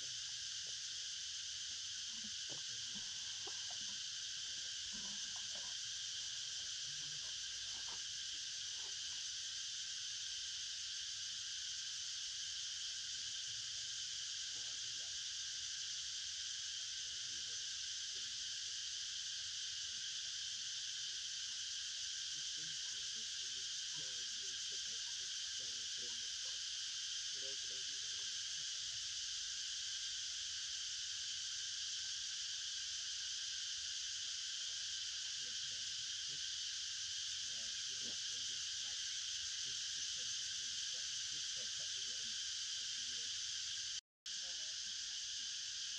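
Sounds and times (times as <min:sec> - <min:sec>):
insect chorus: 0:00.0 - 0:45.9.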